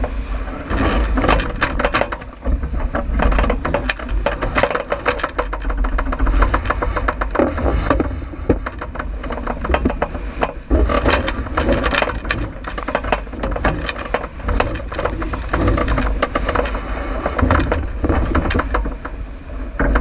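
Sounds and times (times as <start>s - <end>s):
boat gear rattling and knocking: 0.0s - 20.0s
low rumble of wind: 0.0s - 20.0s.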